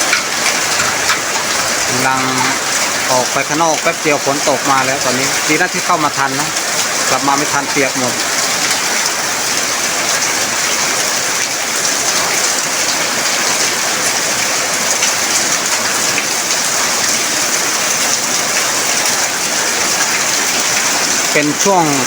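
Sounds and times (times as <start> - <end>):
heavy rain pouring: 0.0 - 22.0
raindrops pattering on surfaces: 0.0 - 22.0.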